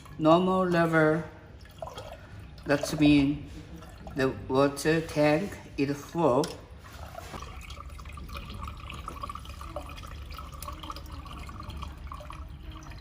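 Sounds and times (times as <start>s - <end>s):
water trickling and splashing: 0.0s - 5.5s, 6.7s - 13.0s.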